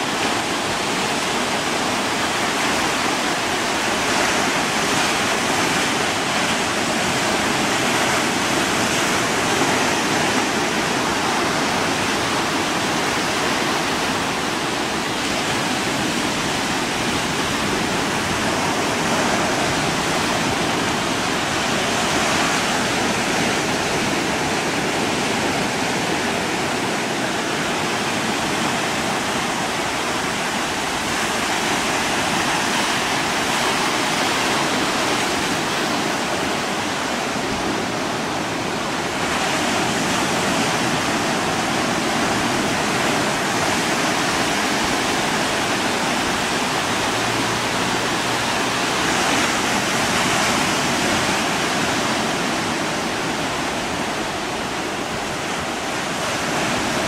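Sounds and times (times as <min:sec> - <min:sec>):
choppy water and waves rushing: 0:00.0 - 0:57.0.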